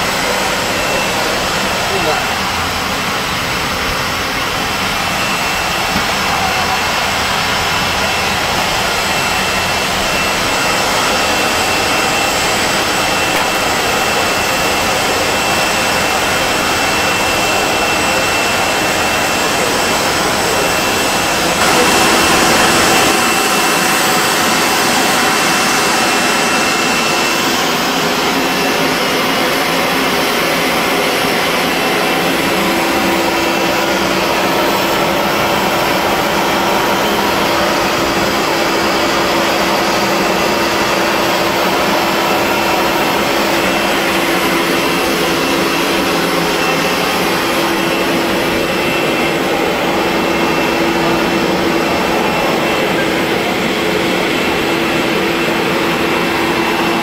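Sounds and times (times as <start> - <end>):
jet engines rushing hiss: 0.0 - 57.0.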